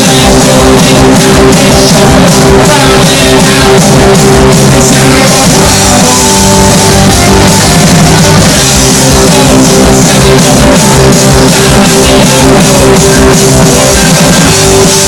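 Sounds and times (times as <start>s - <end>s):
distorted electric guitars: 0.0s - 15.0s
drum kit pounding: 0.0s - 15.0s.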